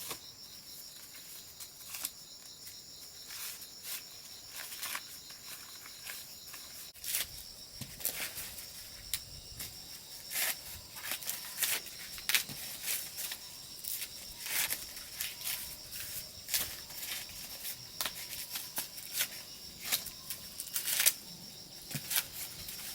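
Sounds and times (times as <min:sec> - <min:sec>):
insect trill: 0:00.0 - 0:22.9
rustling dry plants: 0:00.0 - 0:22.9.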